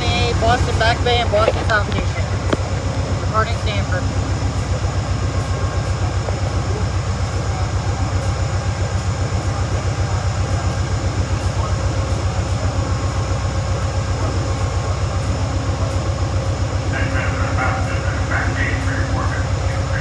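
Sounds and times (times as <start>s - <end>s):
train low hum with throb: 0.0s - 20.0s.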